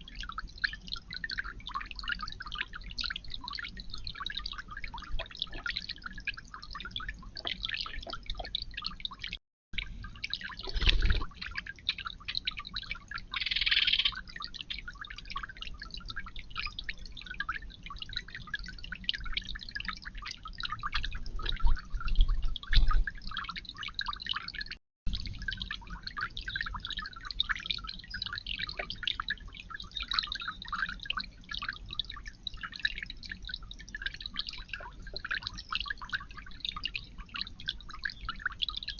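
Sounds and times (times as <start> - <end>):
water trickling in fountain: 0.0 - 38.9.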